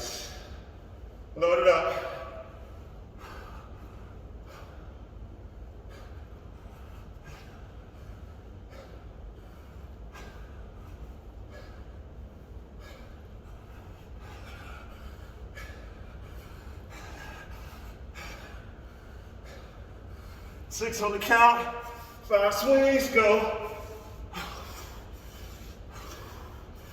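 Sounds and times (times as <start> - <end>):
man breathing hard: 0.0 - 26.9
steady low hum: 0.0 - 26.9.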